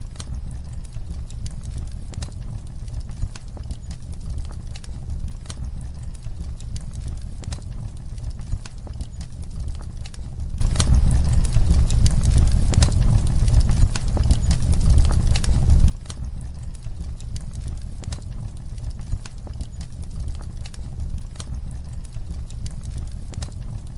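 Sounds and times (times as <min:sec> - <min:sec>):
fireplace crackling: 0:00.0 - 0:23.9.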